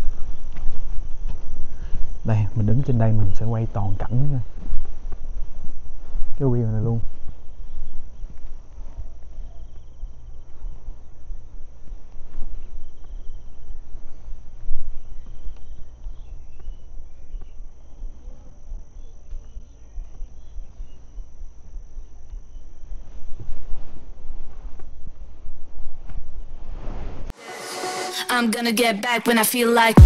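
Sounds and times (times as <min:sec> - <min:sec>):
insects chirping: 0:00.0 - 0:29.9.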